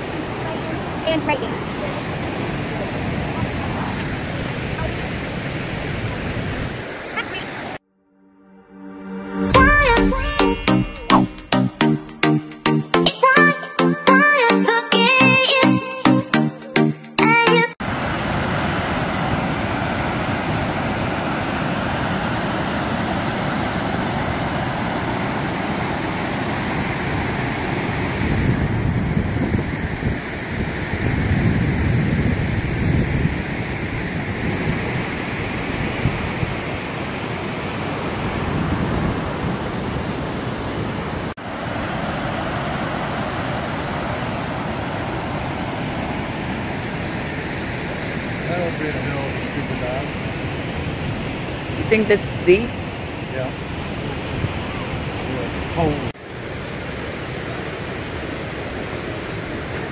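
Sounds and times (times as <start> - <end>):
waterfall rushing: 0.0 - 7.8, 17.8 - 59.9.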